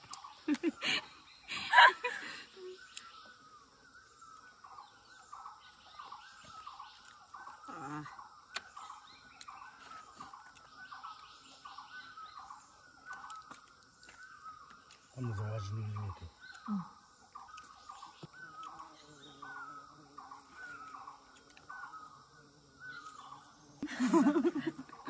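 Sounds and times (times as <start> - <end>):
faint bird calls: 0.0 - 25.0.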